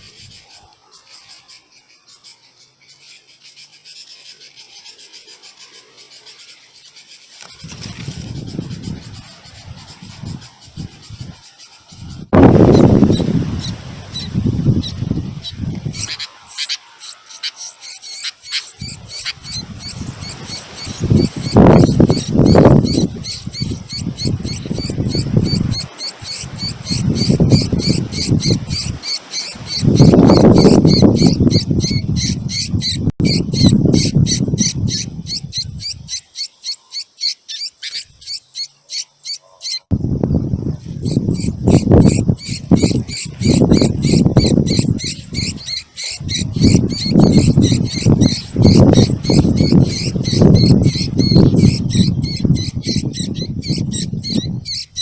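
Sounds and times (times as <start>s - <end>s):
baby birds chirping: 0.0s - 55.0s.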